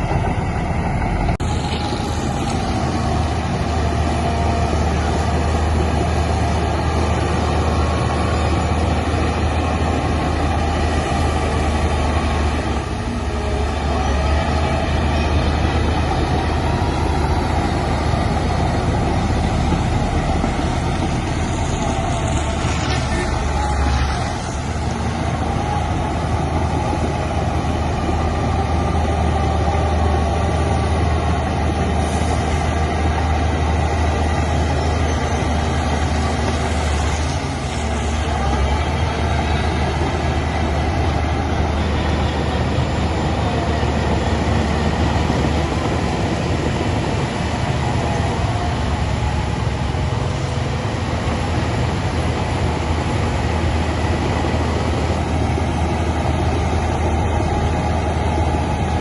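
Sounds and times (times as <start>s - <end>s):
diesel machinery engine drone: 0.0s - 59.0s.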